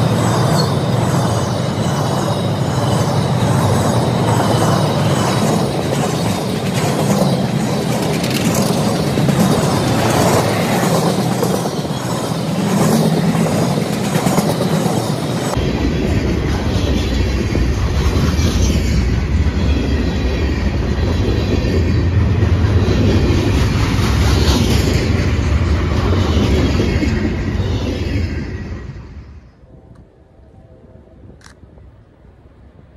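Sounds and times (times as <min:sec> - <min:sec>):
freight train wheels on rails: 0:00.0 - 0:30.5.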